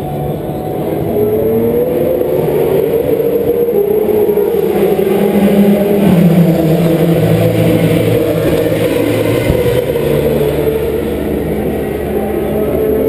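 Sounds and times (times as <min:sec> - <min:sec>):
race car engine idling: 0:00.0 - 0:13.0.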